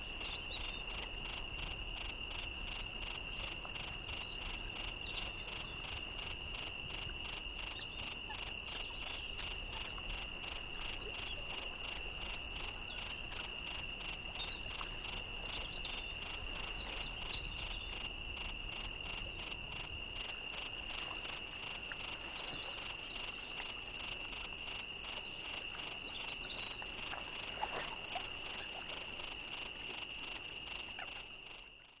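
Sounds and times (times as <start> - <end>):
insects trilling: 0.0 - 32.0
insects chirping in pulses: 0.1 - 32.0.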